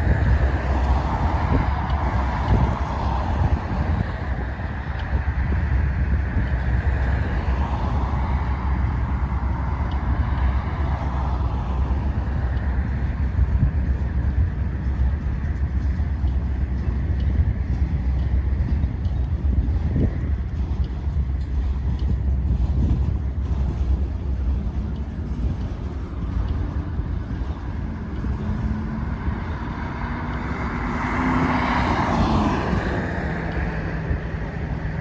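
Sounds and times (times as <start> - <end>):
cars passing on road: 0.0 - 35.0
freight train rolling rumble: 0.0 - 35.0.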